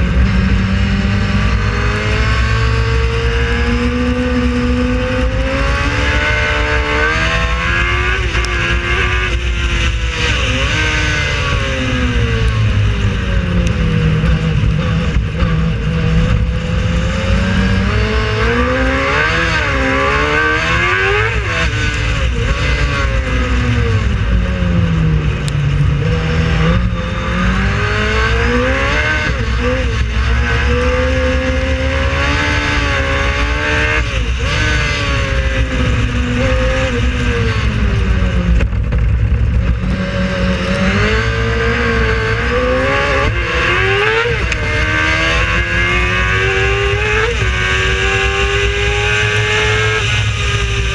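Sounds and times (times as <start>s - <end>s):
race car engine accelerating: 0.0s - 50.9s.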